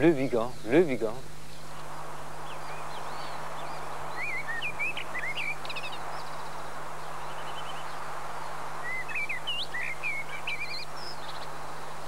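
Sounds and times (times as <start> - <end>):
songbirds chirping: 0.0 - 12.0
steady hiss: 0.0 - 12.0.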